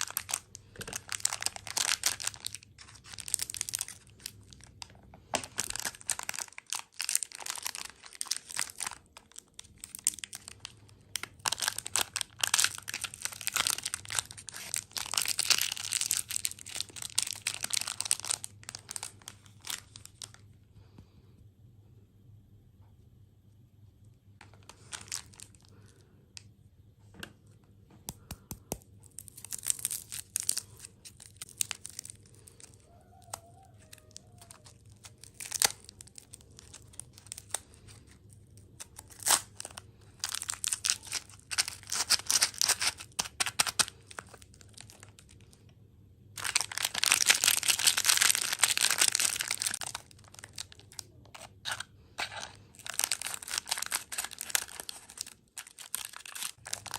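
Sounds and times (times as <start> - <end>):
plastic packaging crinkling and tearing: 0.0 - 20.5, 24.4 - 26.0, 28.2 - 45.7, 46.4 - 56.9.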